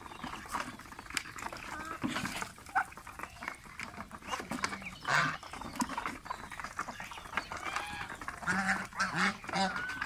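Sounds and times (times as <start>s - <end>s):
bills pecking and dabbling: 0.0s - 10.0s.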